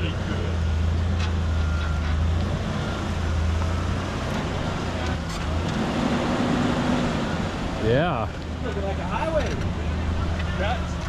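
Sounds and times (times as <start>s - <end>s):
truck engine running low speed: 0.0s - 11.0s.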